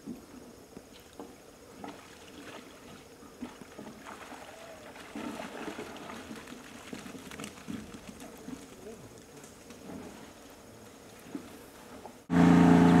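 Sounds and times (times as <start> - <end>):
water splashing and dripping: 0.9 - 11.6.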